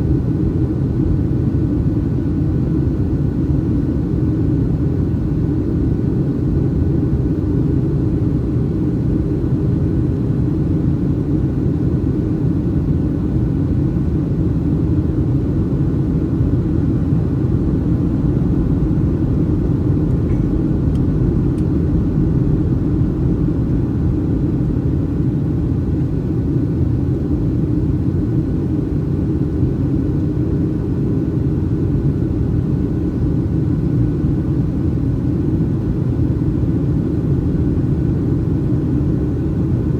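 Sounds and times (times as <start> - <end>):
airplane cabin rumble: 0.0 - 39.9
faint steady whine: 0.0 - 39.9.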